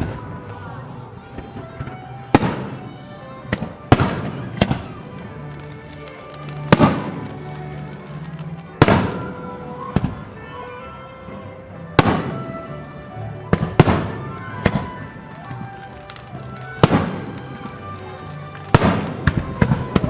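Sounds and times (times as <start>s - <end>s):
fireworks bangs with rumbling echo: 0.0s - 10.6s, 11.4s - 20.0s
music: 0.0s - 20.0s.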